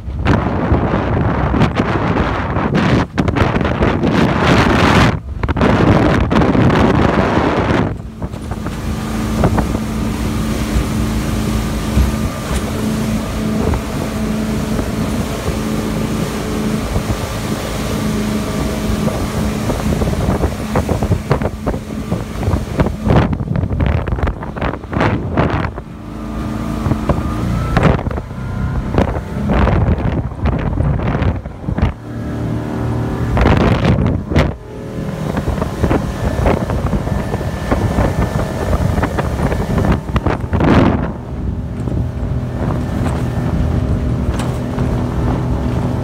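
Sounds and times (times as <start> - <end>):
boat engine running: 0.0 - 46.0
rushing water: 0.0 - 46.0
wind buffeting microphone: 0.0 - 46.0.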